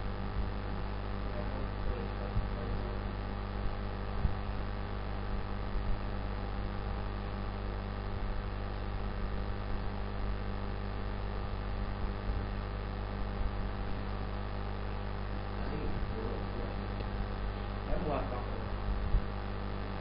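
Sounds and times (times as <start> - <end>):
electrical mains hum with hiss: 0.0 - 20.0.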